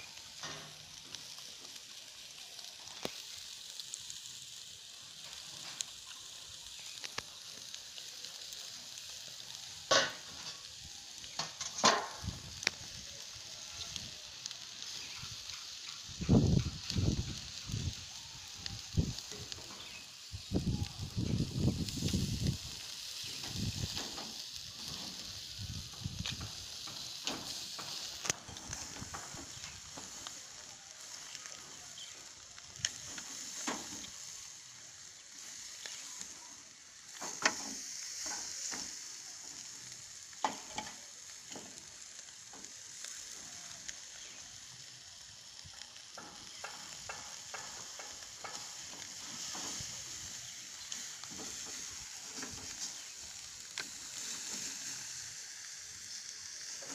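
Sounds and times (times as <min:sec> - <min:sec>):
meat sizzling over charcoal: 0:00.0 - 0:56.9.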